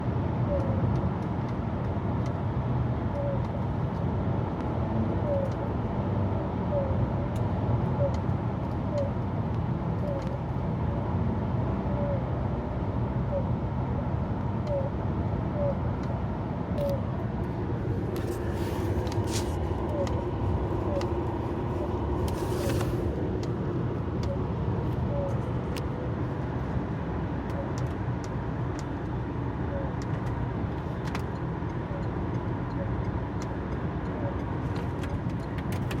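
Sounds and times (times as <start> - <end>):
car engine running: 0.0 - 36.0
road rumble: 0.0 - 36.0.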